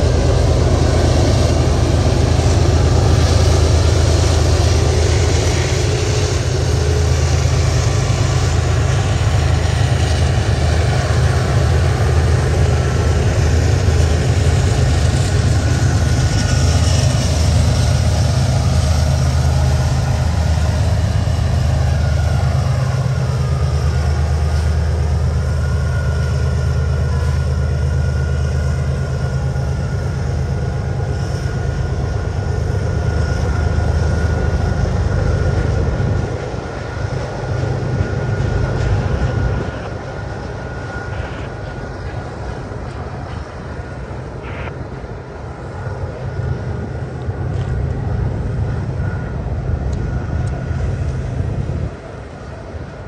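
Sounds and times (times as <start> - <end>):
diesel locomotive engine drone: 0.0 - 53.0
train rumble: 0.0 - 53.0.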